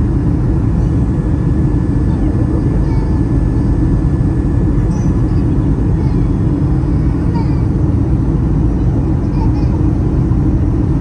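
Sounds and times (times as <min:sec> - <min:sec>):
airliner cabin rumble: 0:00.0 - 0:11.0
faint steady whine: 0:00.0 - 0:11.0.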